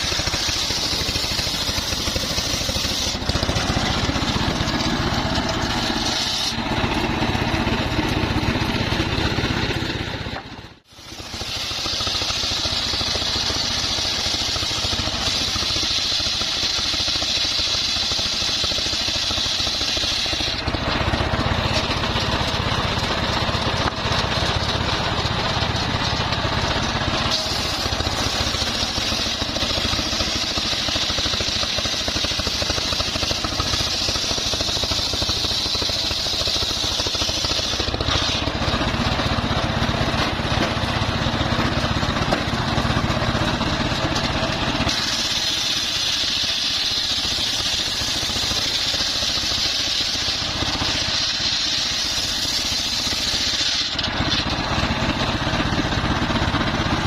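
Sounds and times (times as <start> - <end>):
circular sawmill running: 0.0 - 57.0
high saw whine: 0.0 - 57.0.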